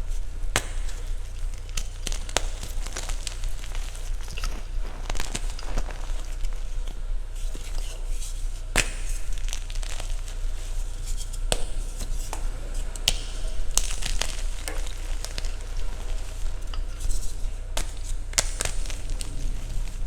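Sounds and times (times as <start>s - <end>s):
chalk crumbling and crunching: 0.0s - 20.0s
steady low hum: 0.0s - 20.0s.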